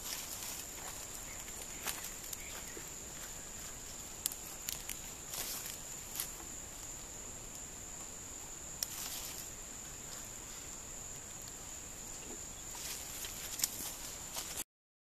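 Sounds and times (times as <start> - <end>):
insects droning: 0.0 - 14.6.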